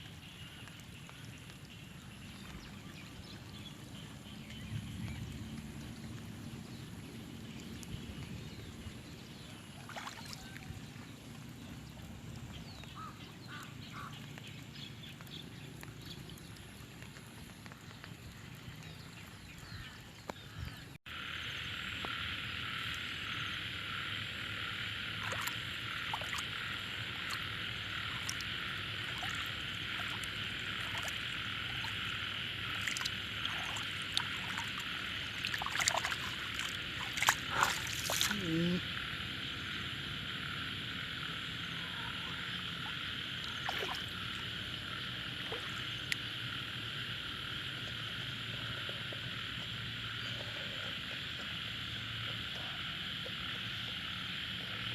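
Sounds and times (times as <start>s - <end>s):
frogs calling: 0.0s - 54.9s.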